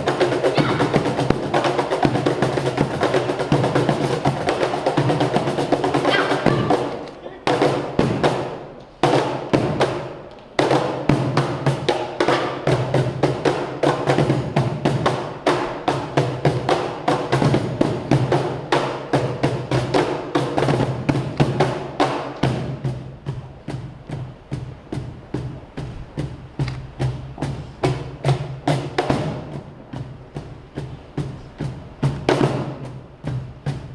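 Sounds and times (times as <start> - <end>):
music: 0.0 - 33.9.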